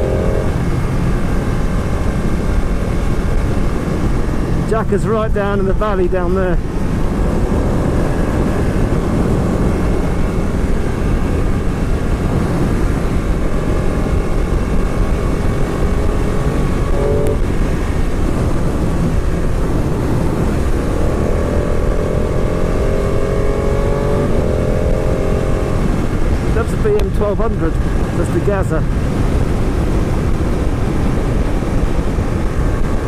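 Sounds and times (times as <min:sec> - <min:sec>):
motorcycle engine: 0:00.0 - 0:33.0
wind rush on microphone: 0:00.0 - 0:33.0.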